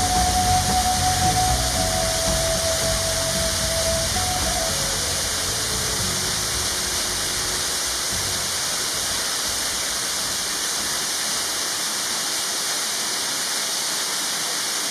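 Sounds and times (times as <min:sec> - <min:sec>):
waterfall splashing into pool: 0:00.0 - 0:14.9.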